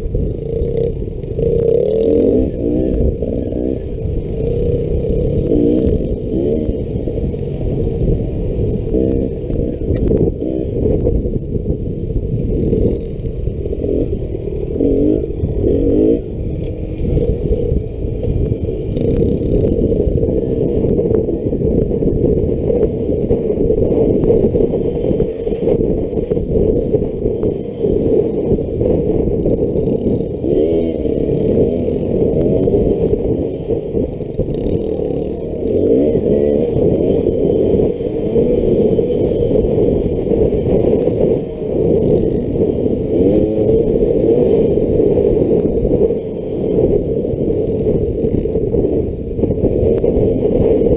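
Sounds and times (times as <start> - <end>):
dirt bike engine revving: 0.0 - 50.9
steady rushing noise: 0.0 - 50.9.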